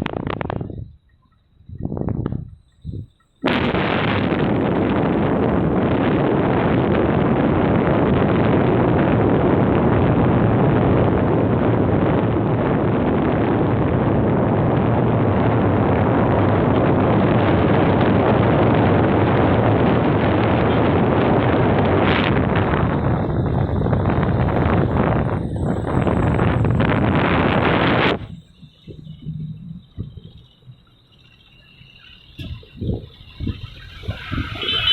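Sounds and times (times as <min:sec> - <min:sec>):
moving vehicle running noise: 0:00.0 - 0:34.9
wind buffeting microphone: 0:00.0 - 0:34.9.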